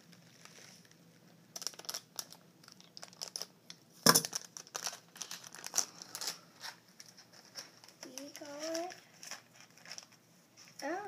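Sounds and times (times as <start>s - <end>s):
foil bag crinkling: 0.1s - 11.0s.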